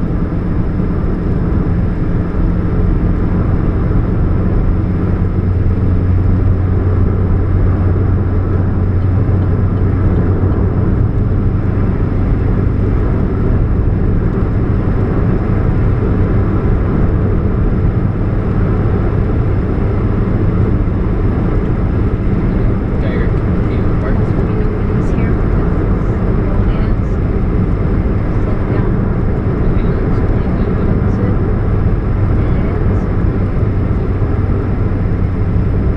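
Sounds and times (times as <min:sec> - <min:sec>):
car engine running: 0:00.0 - 0:35.9
low steady hum: 0:00.0 - 0:35.9
road noise: 0:00.0 - 0:35.9.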